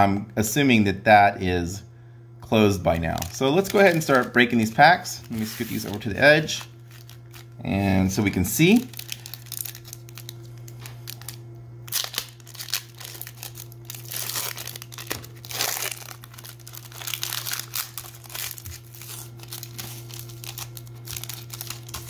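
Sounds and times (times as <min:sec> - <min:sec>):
foil pack tearing and crinkling: 0:03.0 - 0:07.6, 0:08.6 - 0:22.0.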